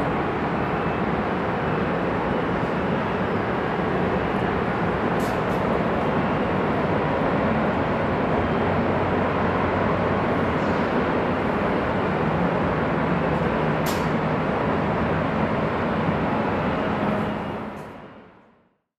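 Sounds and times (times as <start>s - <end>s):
freeway traffic: 0.0s - 18.4s.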